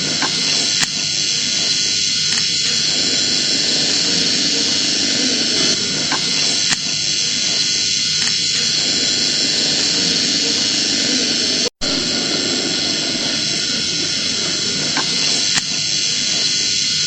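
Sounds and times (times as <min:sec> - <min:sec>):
loud rushing static noise: 0:00.0 - 0:17.0.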